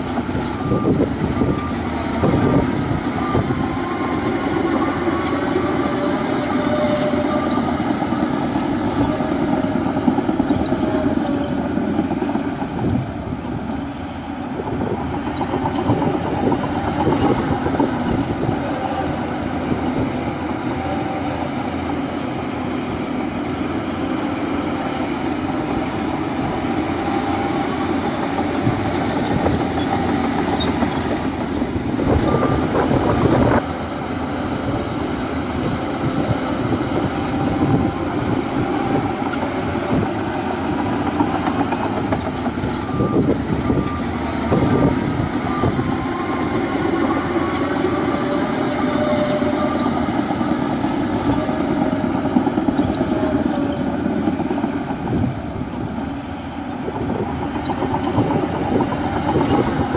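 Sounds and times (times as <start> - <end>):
diesel engine under load: 0.0 - 59.9
steel tracks clanking: 4.3 - 59.9.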